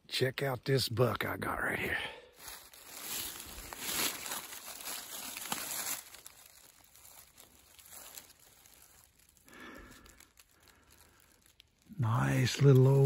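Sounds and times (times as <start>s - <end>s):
dry leaves rustling: 2.3s - 13.0s.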